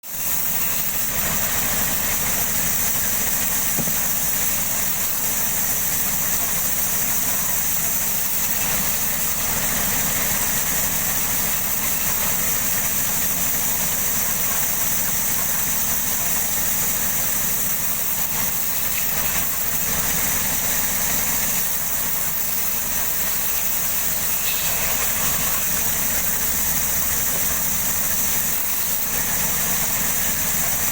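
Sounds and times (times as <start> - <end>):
sawmill machinery running: 0.0 - 30.9.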